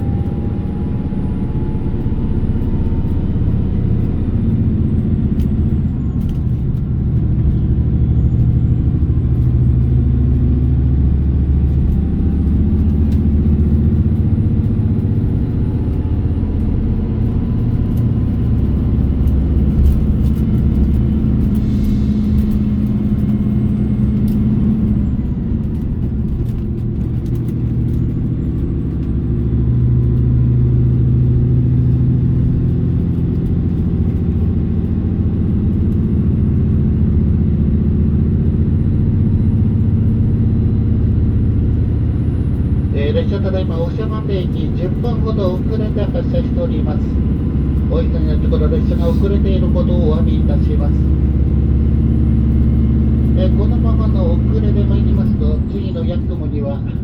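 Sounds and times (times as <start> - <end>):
diesel engine hum: 0.0 - 57.0
wheels rumbling on rail: 0.0 - 57.0.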